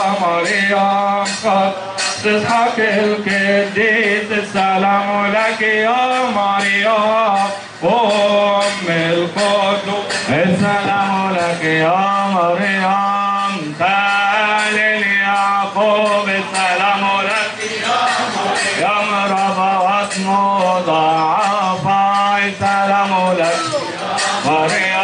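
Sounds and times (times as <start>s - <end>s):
man chanting a hymn: 0.0s - 17.6s, 18.6s - 25.0s.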